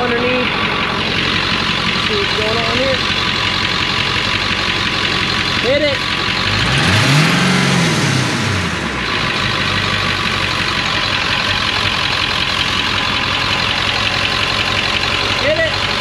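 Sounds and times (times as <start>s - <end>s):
diesel engine revving and idling: 0.0s - 16.0s.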